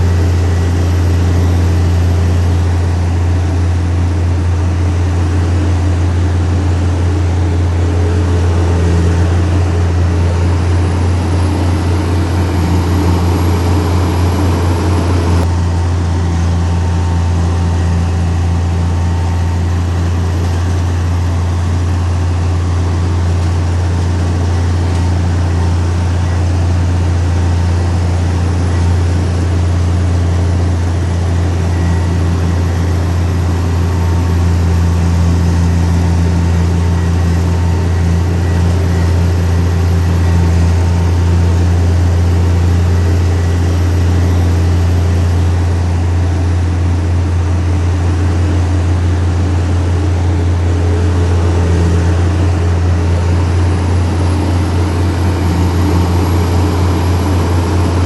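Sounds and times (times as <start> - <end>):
heavy diesel engine drone: 0.0 - 58.0.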